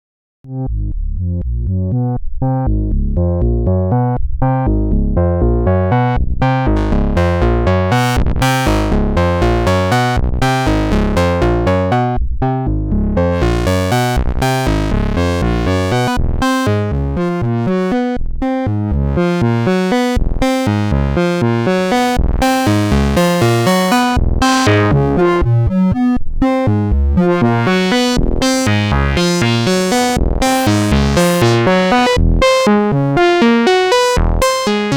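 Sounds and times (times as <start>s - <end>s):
analog synth sequencer pattern: 4.6s - 12.0s, 13.2s - 34.9s.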